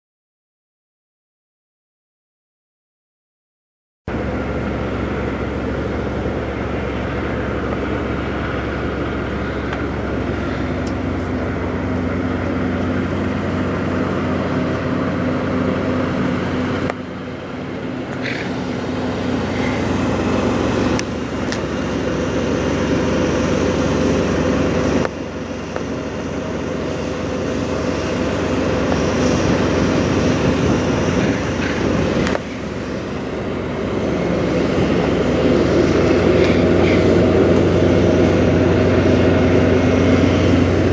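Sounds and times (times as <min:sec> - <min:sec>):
diesel truck engine idling: 0:04.1 - 0:40.9.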